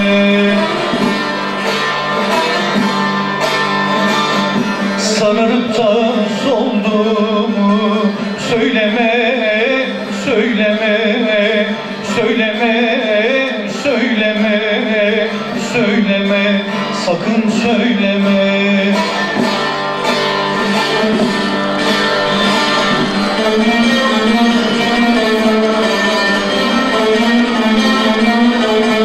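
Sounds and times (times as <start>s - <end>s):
person singing: 0.0s - 2.8s, 3.4s - 19.5s, 20.6s - 29.0s
plucked long-necked lute melody: 0.0s - 29.0s.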